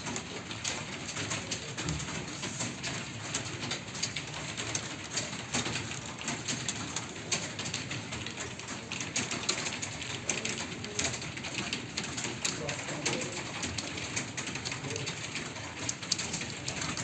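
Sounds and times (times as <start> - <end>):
computer keyboard typing: 0.0 - 17.0.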